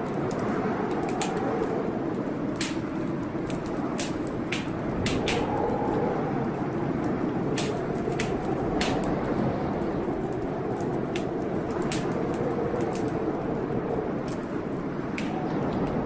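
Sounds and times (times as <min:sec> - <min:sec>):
steady rushing noise: 0:00.0 - 0:16.0
wood fire crackling: 0:00.0 - 0:16.0.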